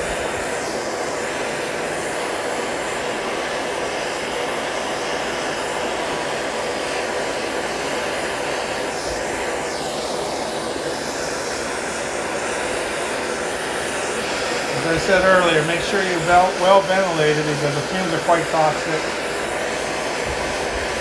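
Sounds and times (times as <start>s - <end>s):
gas torch hissing: 0.0s - 21.0s.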